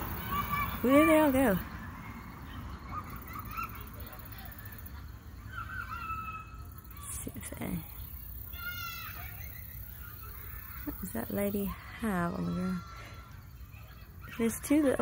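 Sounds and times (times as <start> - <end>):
distant children shouting: 0.0 - 15.0.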